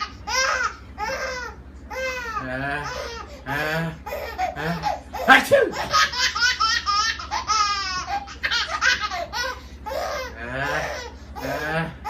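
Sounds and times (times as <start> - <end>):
baby laughing: 0.0 - 12.0.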